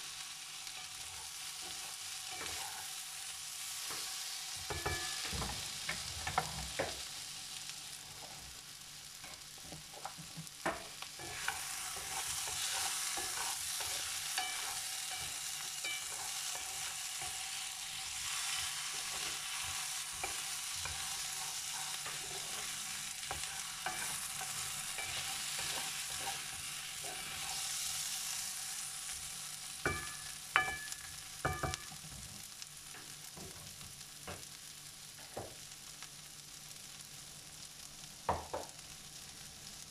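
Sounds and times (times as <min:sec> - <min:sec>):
vegetables sizzling in a frying pan: 0:00.0 - 0:39.9.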